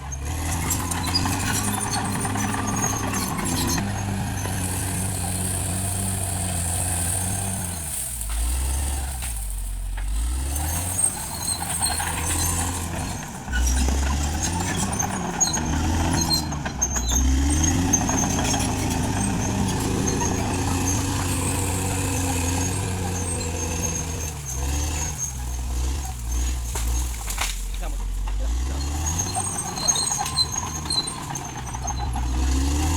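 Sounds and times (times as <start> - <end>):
bulldozer diesel engine working: 0.0 - 32.9.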